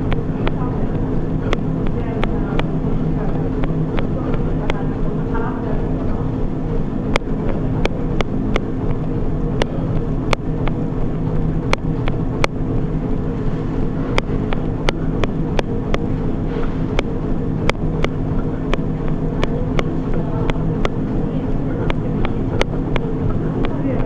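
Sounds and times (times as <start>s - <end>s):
treadmill hum: 0.0s - 24.0s.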